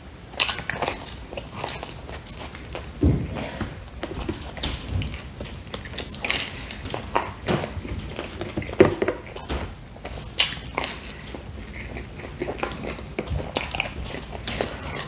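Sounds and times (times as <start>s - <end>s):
chewing food: 0.3s - 15.0s.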